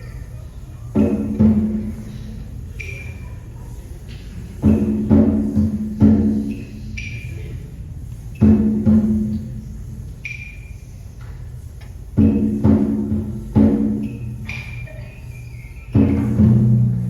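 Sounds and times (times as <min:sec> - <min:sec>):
timpani and drum strokes: 0:00.9 - 0:03.3, 0:04.3 - 0:11.2, 0:12.0 - 0:17.0.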